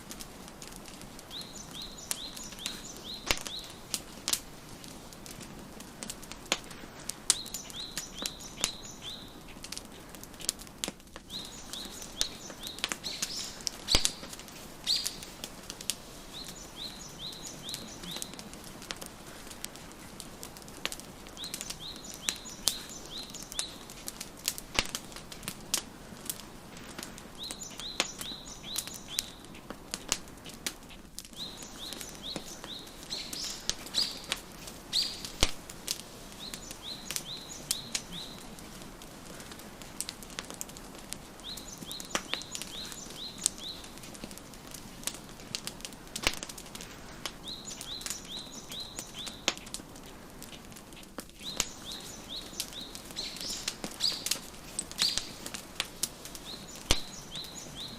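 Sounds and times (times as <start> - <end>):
wood fire crackling and popping: 0.0 - 57.9
songbird chirping: 0.9 - 5.4, 6.5 - 9.9, 11.2 - 25.3, 26.5 - 29.8, 31.3 - 45.6, 47.2 - 49.8, 50.5 - 57.9.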